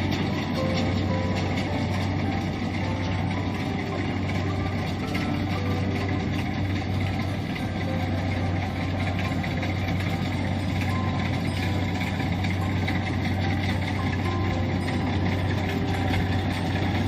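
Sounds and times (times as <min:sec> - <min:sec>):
harvester diesel engine humming: 0:00.0 - 0:17.0
machinery noise: 0:00.0 - 0:17.0.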